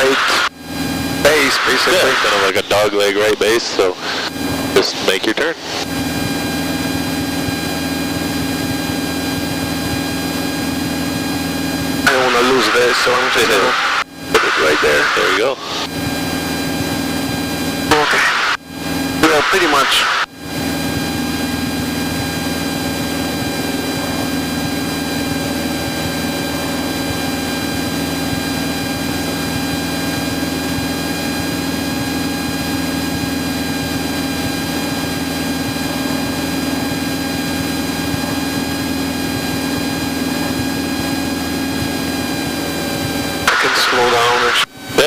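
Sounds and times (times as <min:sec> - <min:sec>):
propeller plane engine droning: 0:00.0 - 0:45.0.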